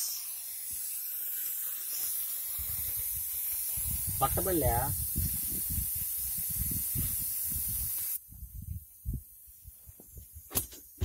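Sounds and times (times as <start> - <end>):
air hissing out of tyre valve: 0.0 - 11.0.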